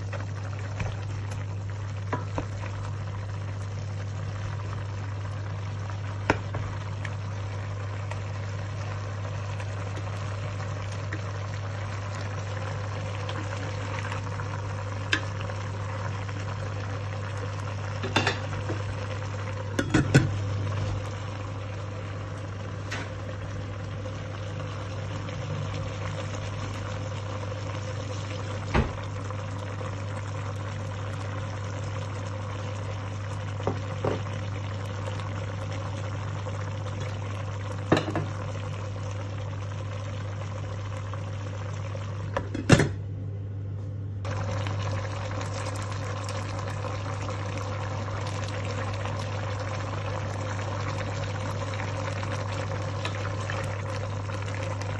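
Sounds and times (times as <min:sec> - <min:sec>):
pot bubbling: 0:00.0 - 0:43.2, 0:44.2 - 0:54.9.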